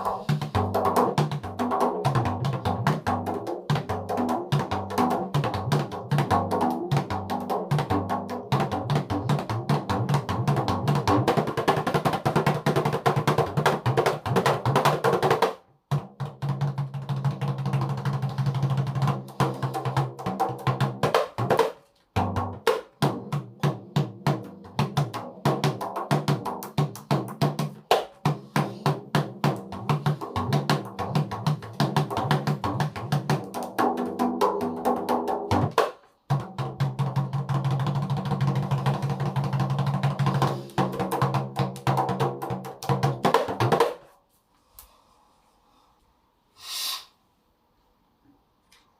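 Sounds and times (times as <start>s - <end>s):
hand-struck frame drums: 0.0s - 44.0s.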